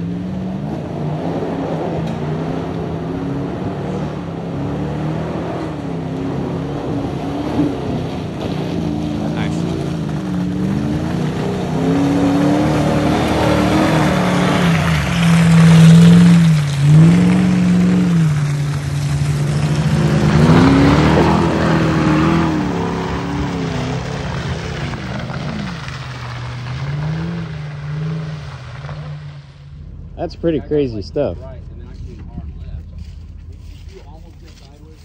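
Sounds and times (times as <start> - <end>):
engine revving under load: 0.0 - 34.8.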